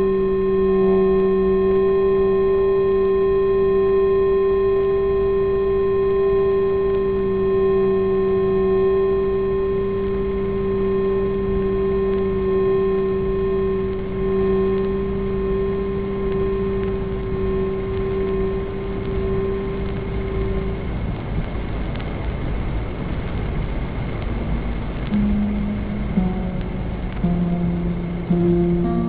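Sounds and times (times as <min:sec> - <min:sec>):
drone of held tones: 0:00.0 - 0:29.0.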